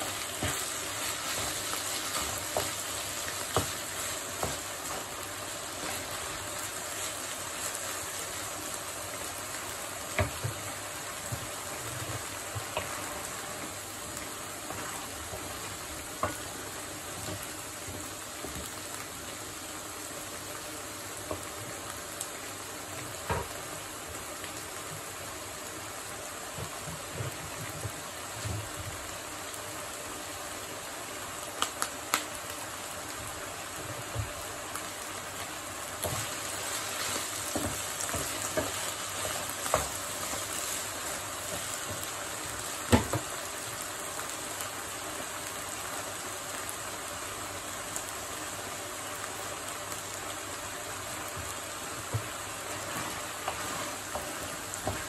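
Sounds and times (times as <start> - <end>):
rice bubbling in a frying pan: 0.0 - 55.0.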